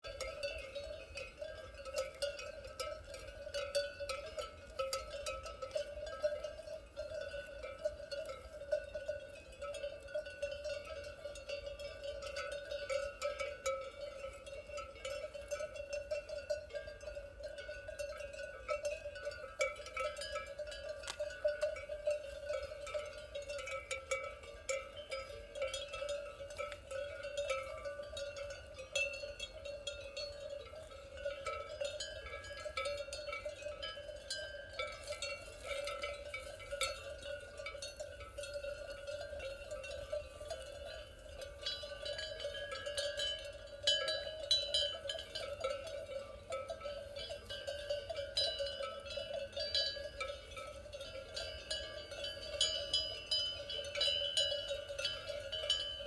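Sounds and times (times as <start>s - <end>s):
cowbells clanking: 0.0s - 56.0s.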